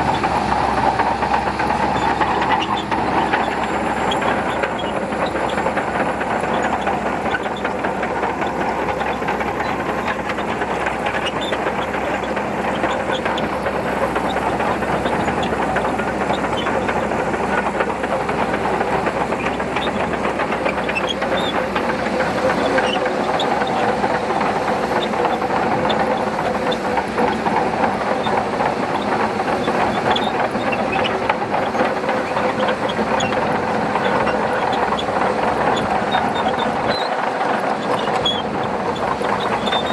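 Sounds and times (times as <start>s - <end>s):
bulldozer diesel engine running: 0.0s - 39.9s
steel tracks rattling and clanking: 0.0s - 39.9s.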